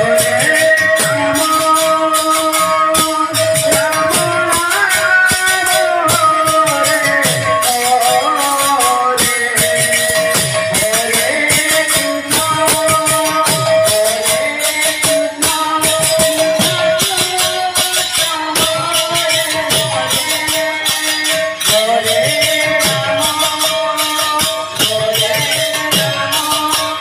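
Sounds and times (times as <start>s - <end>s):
barrel drum played fast: 0.0s - 27.0s
hand cymbals clashing: 0.0s - 27.0s.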